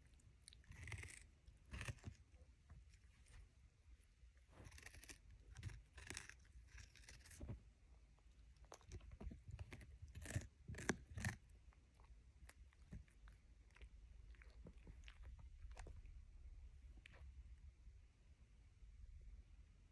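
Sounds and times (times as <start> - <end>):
puppy chewing and crunching: 0.0 - 3.4, 4.4 - 17.5.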